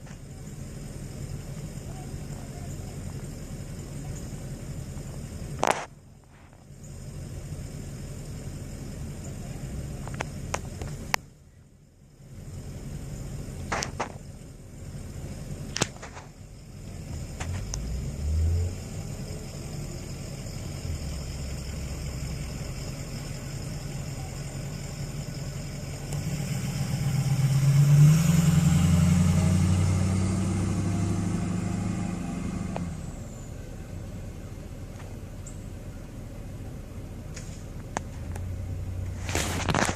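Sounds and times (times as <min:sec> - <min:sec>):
truck engine revving: 0:00.0 - 0:11.2, 0:12.3 - 0:36.0, 0:36.9 - 0:39.9.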